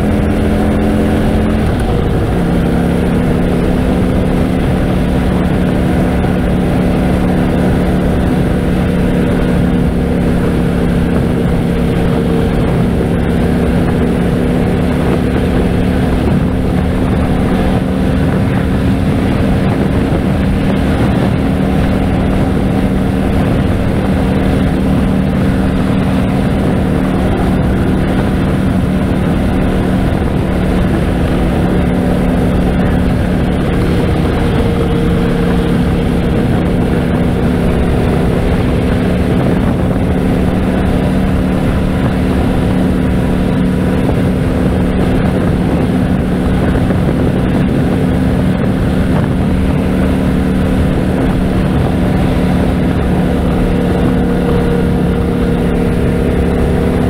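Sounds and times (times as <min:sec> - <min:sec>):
motorcycle engine cruising: 0:00.0 - 0:57.0
wind rush: 0:00.0 - 0:57.0.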